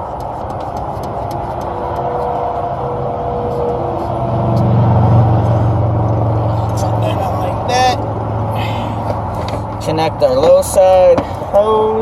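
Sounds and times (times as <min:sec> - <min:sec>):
low motor hum: 0:00.0 - 0:10.2.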